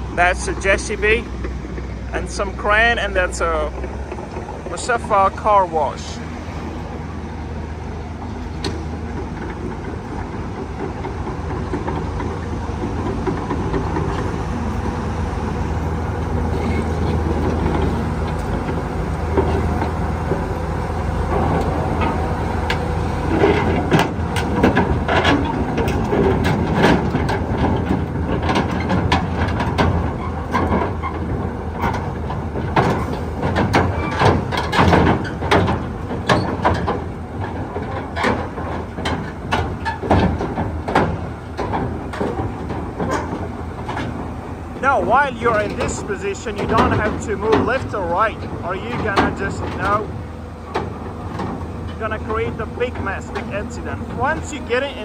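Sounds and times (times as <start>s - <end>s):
excavator diesel engine running: 0.0s - 55.0s
metallic clanks of steel tracks: 0.0s - 55.0s.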